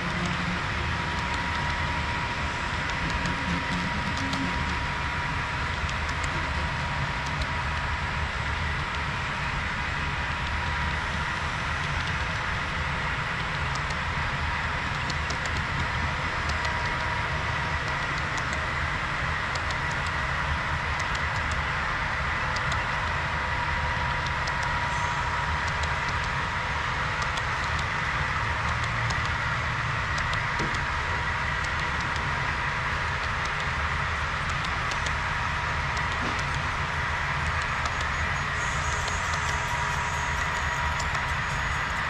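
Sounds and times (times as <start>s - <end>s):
model train engine sound: 0.0s - 42.0s.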